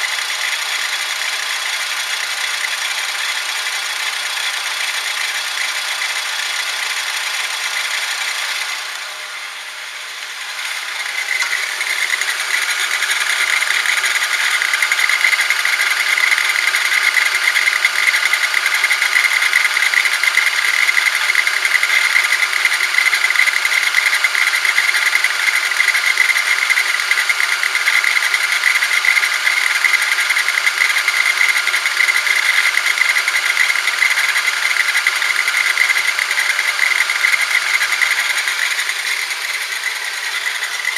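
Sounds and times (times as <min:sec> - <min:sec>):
steering mechanical buzzing whine: 0:00.0 - 0:40.9.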